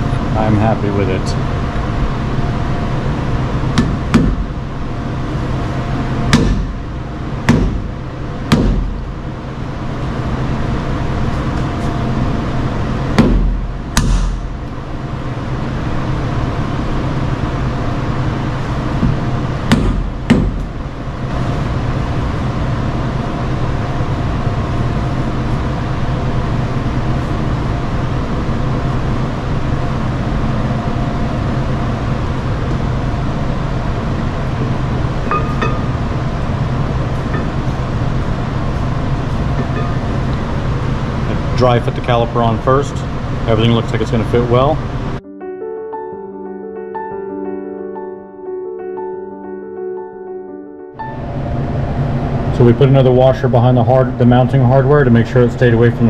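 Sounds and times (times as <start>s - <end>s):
steady hum: 0.0s - 45.3s, 51.0s - 56.0s.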